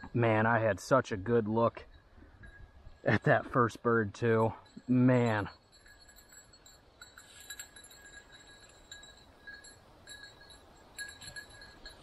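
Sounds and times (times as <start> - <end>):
small bell jingling on dog collar: 1.8 - 12.0.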